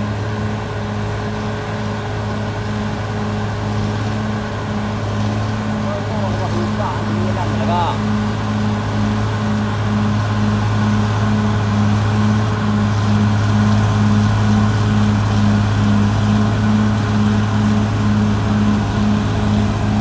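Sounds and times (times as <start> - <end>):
bulldozer diesel engine: 0.0 - 20.0.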